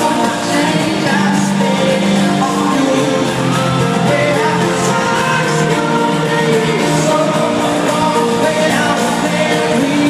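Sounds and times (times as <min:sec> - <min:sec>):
live pop-rock band: 0:00.0 - 0:10.0
man singing lead vocal: 0:00.0 - 0:10.0.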